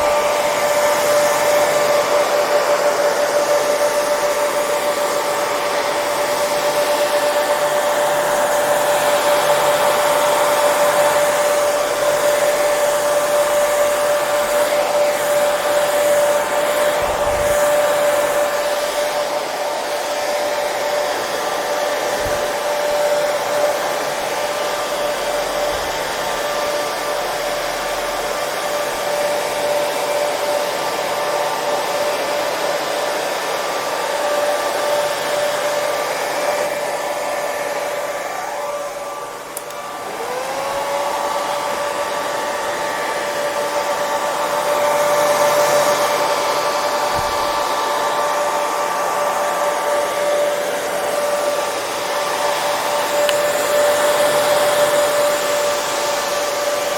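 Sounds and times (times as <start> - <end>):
hair dryer running: 0.0 - 56.9.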